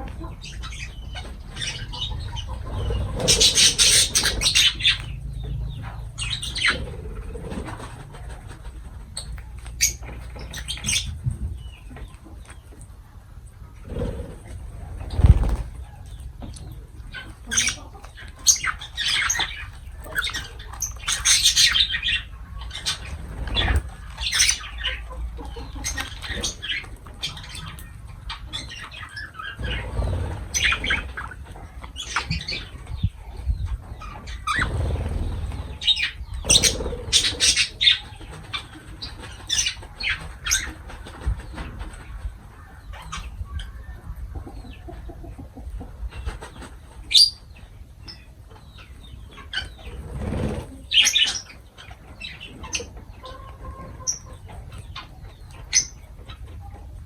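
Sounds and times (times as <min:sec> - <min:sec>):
lovebirds chirping and squawking: 0:00.0 - 0:57.0.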